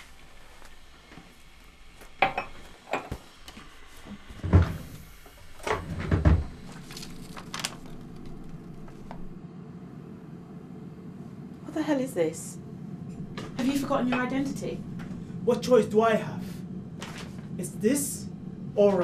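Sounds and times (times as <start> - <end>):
low hum: 3.5 - 19.0.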